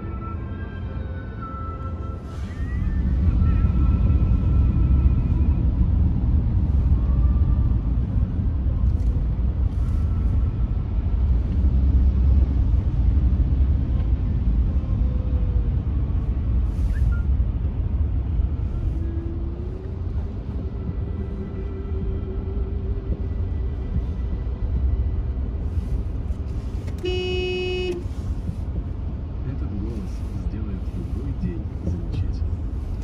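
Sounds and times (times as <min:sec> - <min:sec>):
car engine and tyres rumble: 0:00.0 - 0:33.0.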